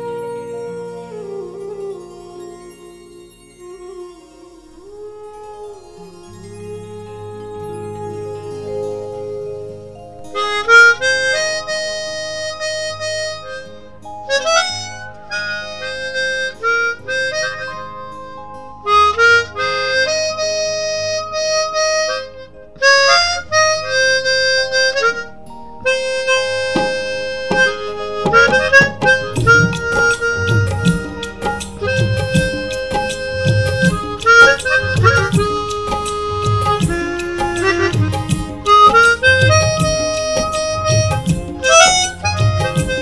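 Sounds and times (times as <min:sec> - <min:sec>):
harmonica melody: 0:00.0 - 0:43.0.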